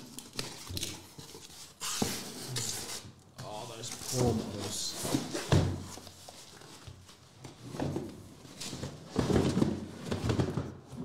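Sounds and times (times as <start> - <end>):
boxes bumping and rubbing: 0.3 - 11.0.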